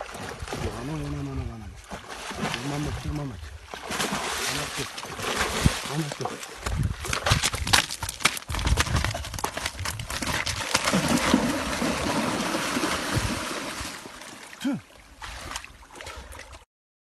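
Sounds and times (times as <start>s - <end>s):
water splashing and sloshing: 0.0s - 16.7s.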